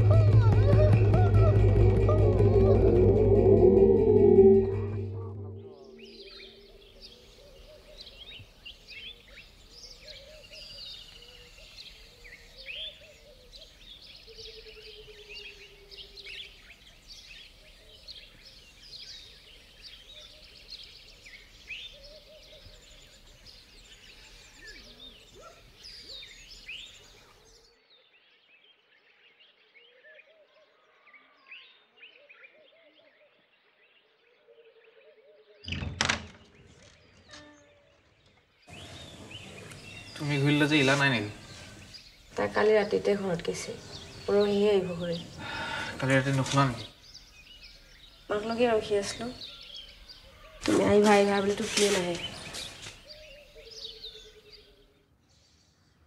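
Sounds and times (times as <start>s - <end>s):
birds chirping: 0.0s - 30.4s, 35.2s - 56.0s.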